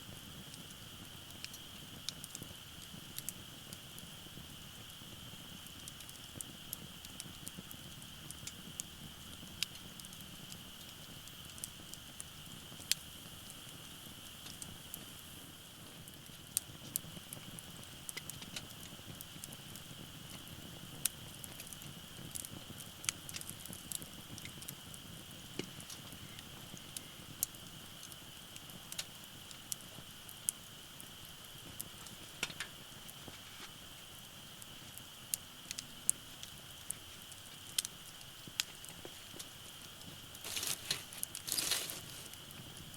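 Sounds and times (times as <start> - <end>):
low hiss: 0.0 - 42.9
wood fire crackling and popping: 0.0 - 42.9.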